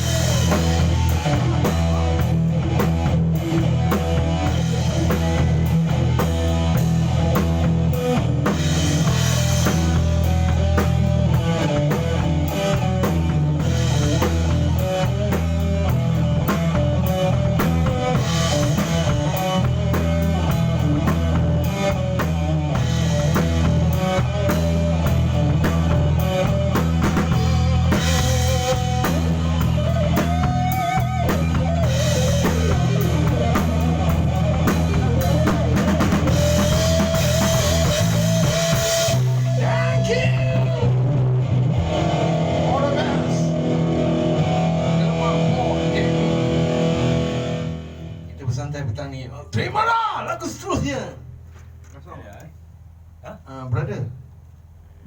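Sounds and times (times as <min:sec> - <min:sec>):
electric guitar: 0:00.0 - 0:48.4
drum kit: 0:00.0 - 0:49.0
bass guitar: 0:00.0 - 0:53.4.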